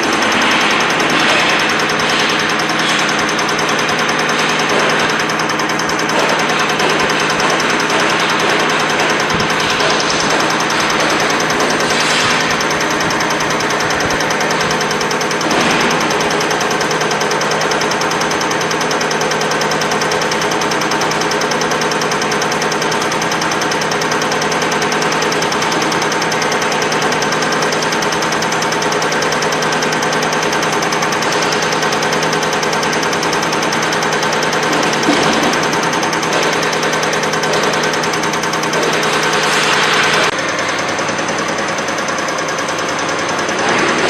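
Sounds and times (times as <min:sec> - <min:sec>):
rapid even ticking: 0:00.0 - 0:44.0
test bench mechanical drone: 0:00.0 - 0:44.0.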